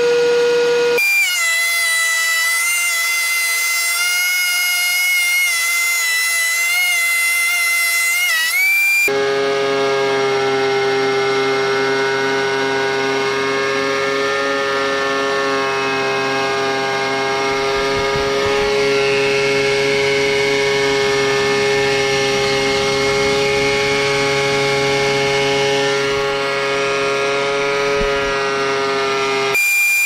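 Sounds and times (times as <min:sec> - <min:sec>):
planer cutting board drone: 0:00.0 - 0:30.0
thickness planer whining: 0:00.0 - 0:30.0.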